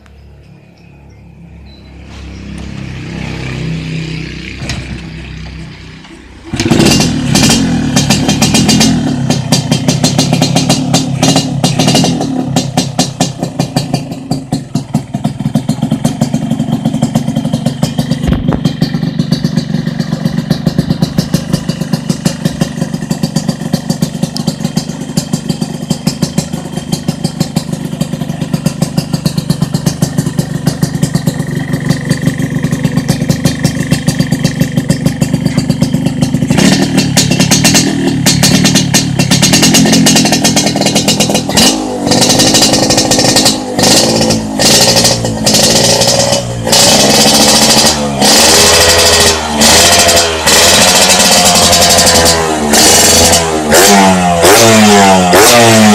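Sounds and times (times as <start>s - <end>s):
motorcycle engine revving and idling: 1.3s - 55.9s.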